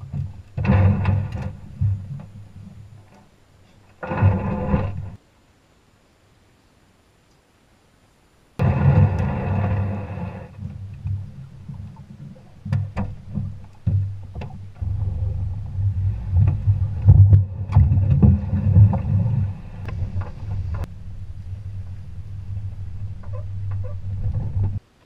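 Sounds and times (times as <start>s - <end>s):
low vehicle rumble: 0.0s - 5.2s, 8.6s - 25.0s.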